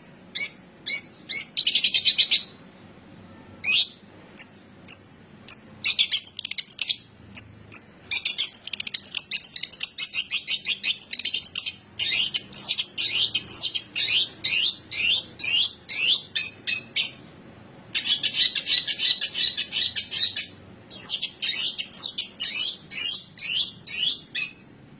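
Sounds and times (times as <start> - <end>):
bird singing sharp chattering: 3.6 - 17.2, 18.0 - 24.7.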